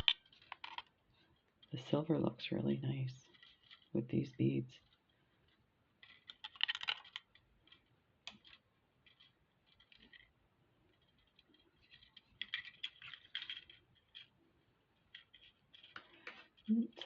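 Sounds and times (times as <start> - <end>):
wire twisted around glass beads: 0.0 - 17.0.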